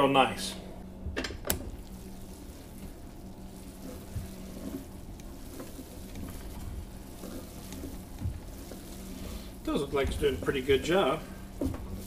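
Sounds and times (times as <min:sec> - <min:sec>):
meat churning in mixer: 0:01.0 - 0:12.0.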